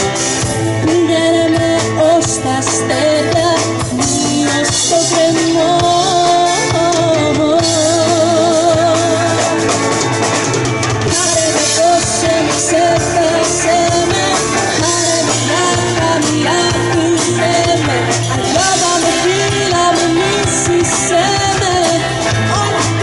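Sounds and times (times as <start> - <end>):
live pop-rock band playing: 0.0 - 23.0
woman singing lead: 0.0 - 23.0.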